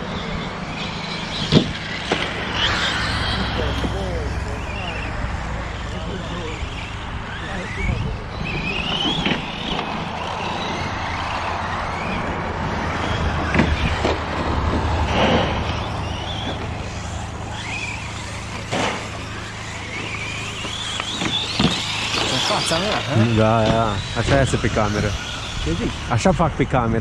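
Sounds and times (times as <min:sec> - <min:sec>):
rc truck motors whining: 0:00.0 - 0:27.0.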